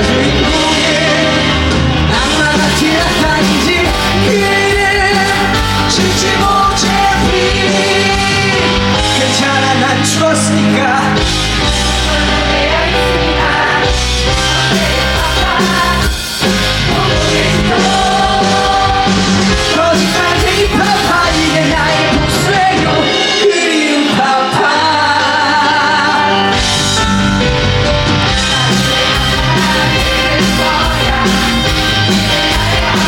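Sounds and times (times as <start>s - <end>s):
voices singing: 0.0s - 26.9s, 28.2s - 33.0s
band playing rock song: 0.0s - 33.0s.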